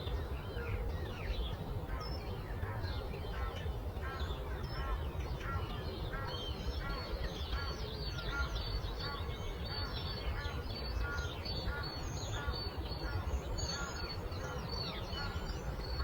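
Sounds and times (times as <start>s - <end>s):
low rumble of breeze: 0.0s - 16.0s
songbirds chirping: 0.0s - 16.0s.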